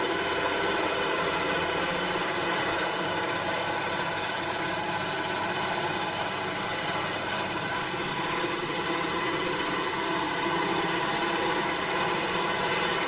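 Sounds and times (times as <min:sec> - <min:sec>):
farm machinery engine running: 0:00.0 - 0:13.0.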